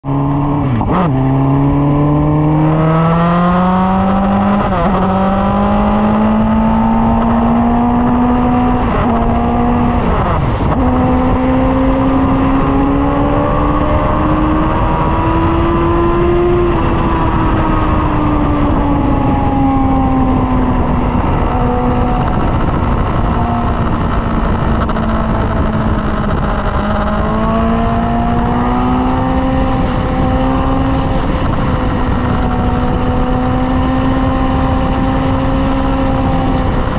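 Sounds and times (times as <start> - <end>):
motorcycle engine at speed: 0.0 - 36.9
wind rushing over microphone: 0.0 - 36.9.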